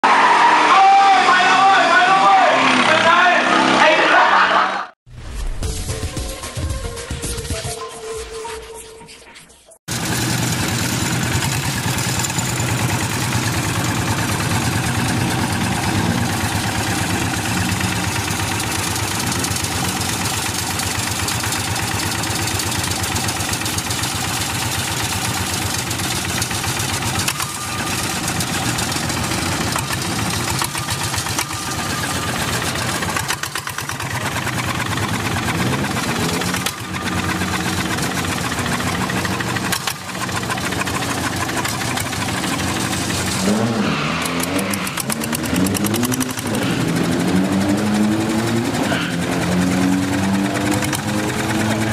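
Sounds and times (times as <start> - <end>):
diesel engine revving loudly: 0.0 - 5.0, 9.9 - 51.9.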